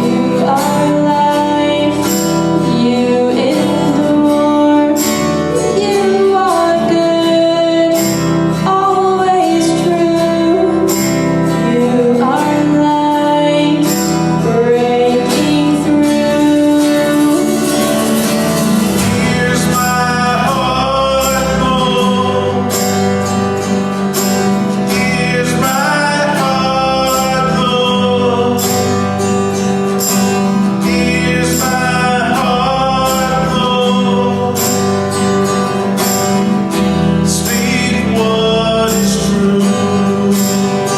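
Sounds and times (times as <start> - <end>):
acoustic guitar strumming: 0.0 - 40.9
person singing: 0.0 - 40.9.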